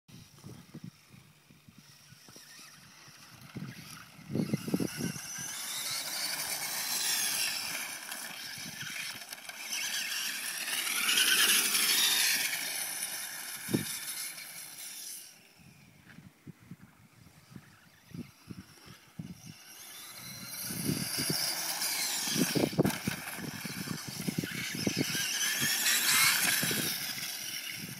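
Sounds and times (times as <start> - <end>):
electric motor whining: 0.2 - 16.0, 17.5 - 27.9.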